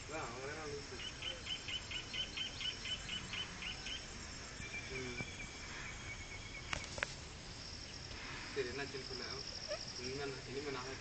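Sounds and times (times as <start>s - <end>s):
insect trill: 0.0s - 11.0s
insects chirping: 0.0s - 11.0s.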